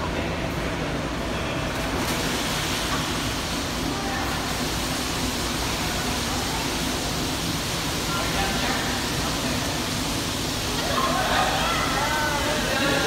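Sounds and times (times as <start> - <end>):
pool water wash: 0.0 - 13.0.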